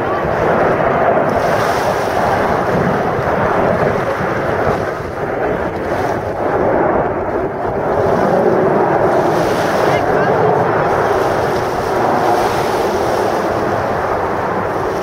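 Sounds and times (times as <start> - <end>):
jets flying overhead: 0.0 - 15.0.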